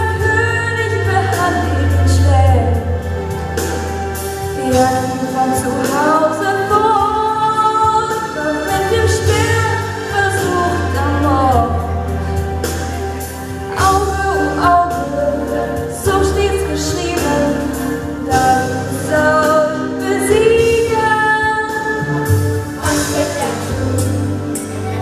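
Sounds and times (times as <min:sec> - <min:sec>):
woman singing into a microphone: 0:00.0 - 0:03.2, 0:04.5 - 0:12.4, 0:13.7 - 0:25.0
music with steady bass line: 0:00.0 - 0:25.0.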